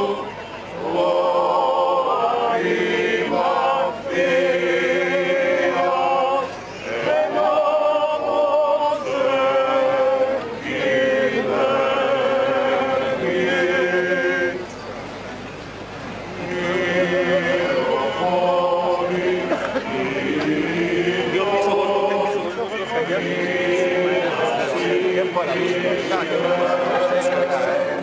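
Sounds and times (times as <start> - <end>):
men chanting a hymn: 0.0 - 14.6, 16.4 - 28.0.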